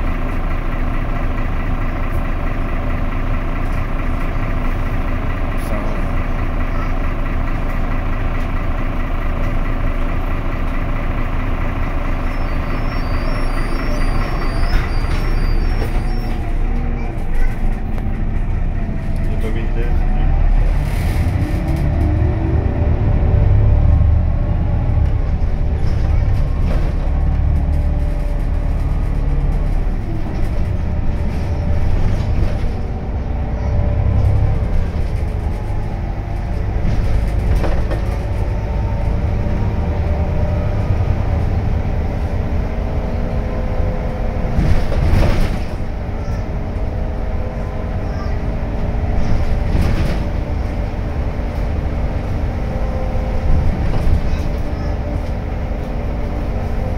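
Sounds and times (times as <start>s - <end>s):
bus engine rumble and whine: 0.0s - 56.9s.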